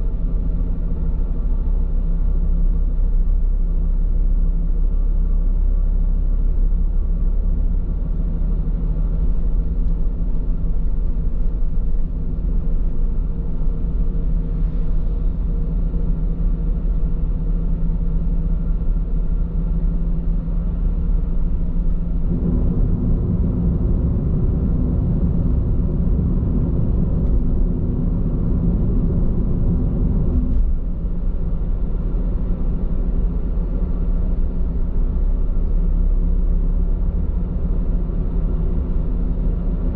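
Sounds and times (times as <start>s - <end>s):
road and tyre noise in car cabin: 0.0s - 39.9s.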